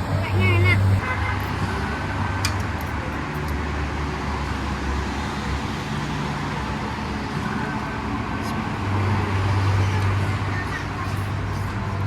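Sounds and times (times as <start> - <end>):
passing vehicles rumbling: 0.0 - 12.0.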